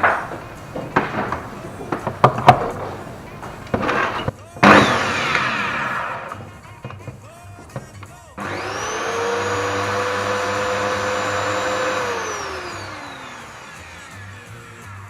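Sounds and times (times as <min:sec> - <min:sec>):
router motor whine: 0:00.0 - 0:06.6, 0:08.4 - 0:15.0
router switch: 0:00.0 - 0:07.1, 0:08.4 - 0:14.5.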